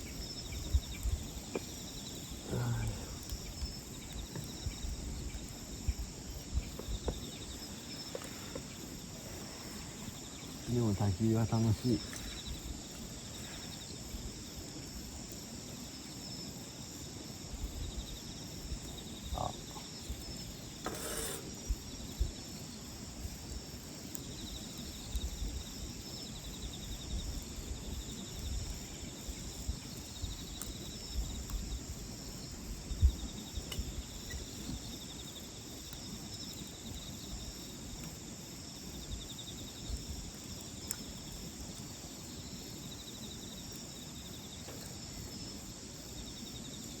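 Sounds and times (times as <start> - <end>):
campfire crackling and popping: 0.0 - 47.0
crickets chirping: 0.0 - 47.0.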